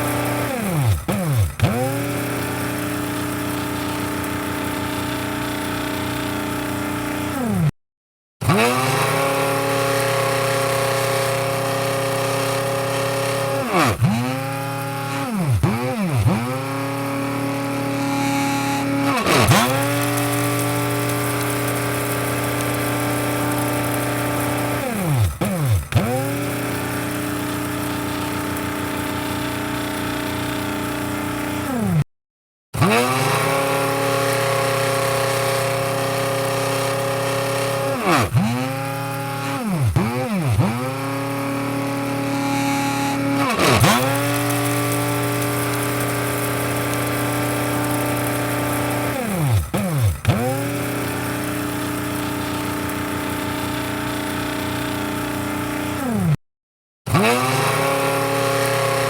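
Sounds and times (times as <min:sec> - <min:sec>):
electric coffee grinder whirring: 0:00.0 - 0:07.7, 0:08.4 - 0:32.0, 0:32.8 - 0:56.4, 0:57.1 - 0:59.0.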